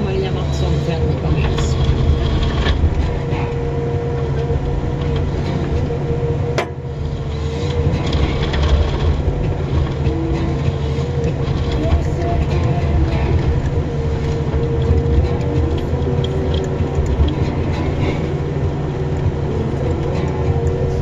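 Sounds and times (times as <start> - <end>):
harvester engine drone: 0.0 - 21.0
hydraulic whine: 0.0 - 21.0.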